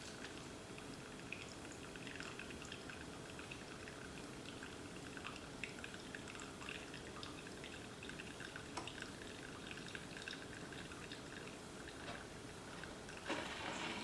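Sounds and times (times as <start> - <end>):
small drips and ticks: 0.0 - 14.0
coffee trickling into cup: 0.1 - 14.0.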